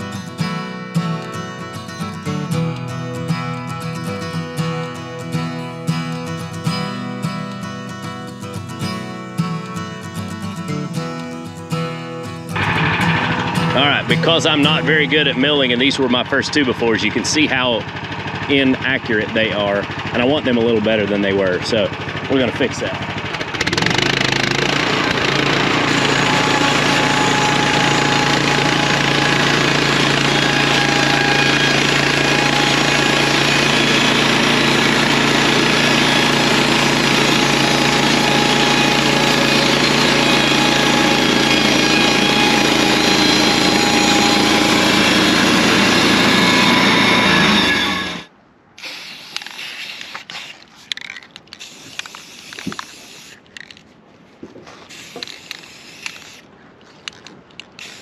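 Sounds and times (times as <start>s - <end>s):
sawmill cutting wood: 0.0s - 51.0s, 51.6s - 53.5s, 54.8s - 56.5s, 57.4s - 58.0s.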